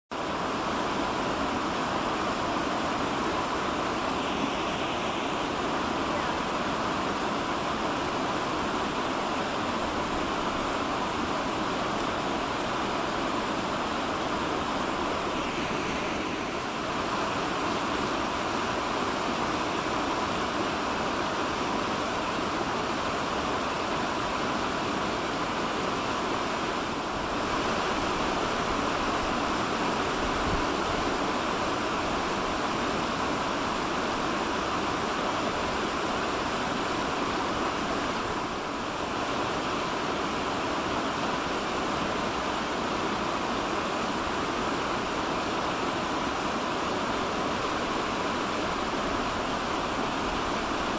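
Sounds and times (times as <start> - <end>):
stream rushing over rocks: 0.1 - 50.9.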